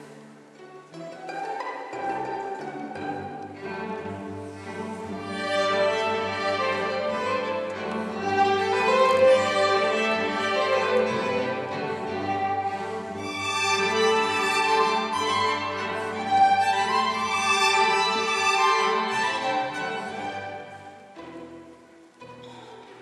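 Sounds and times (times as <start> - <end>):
string orchestra classical piece: 0.0 - 23.0.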